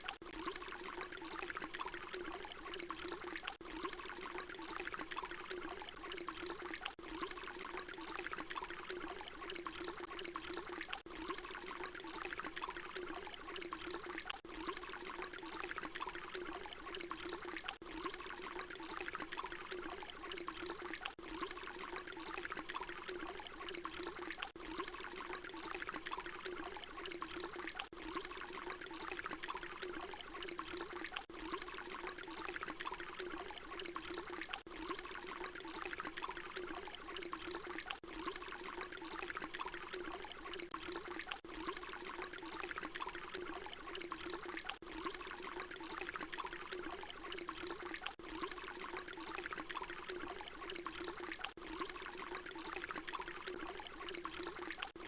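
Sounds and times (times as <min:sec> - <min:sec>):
water pouring in steady stream: 0:00.0 - 0:55.0.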